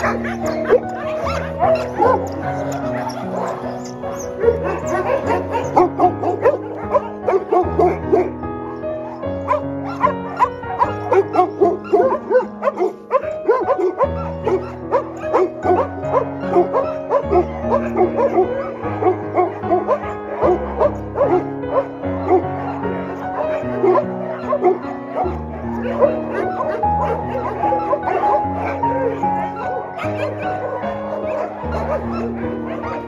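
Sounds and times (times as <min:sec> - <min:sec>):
dogs yipping and whining: 0:00.0 - 0:33.0.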